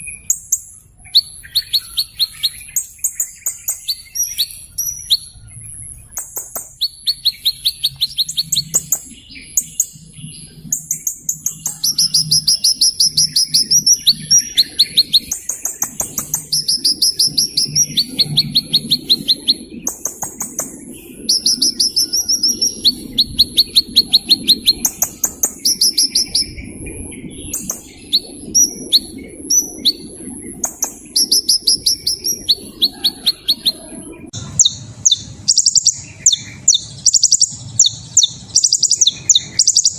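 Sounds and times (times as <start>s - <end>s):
bird trilling: 0.0s - 39.9s.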